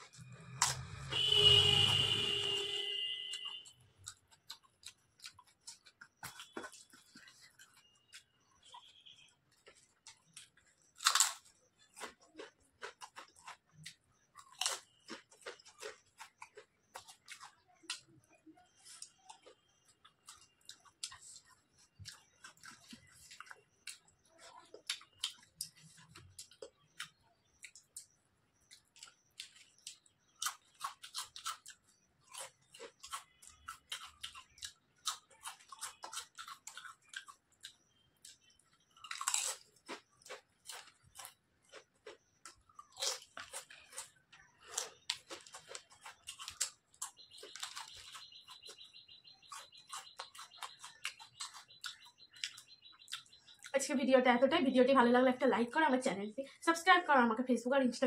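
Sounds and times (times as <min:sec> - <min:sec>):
chewing crisp chips: 0:00.0 - 0:53.8.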